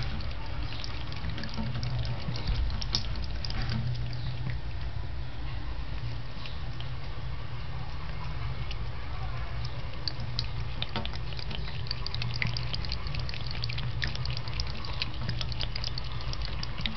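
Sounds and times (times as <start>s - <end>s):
cat lapping water: 0.0s - 5.0s, 5.9s - 16.9s
trickle of water: 0.0s - 16.9s.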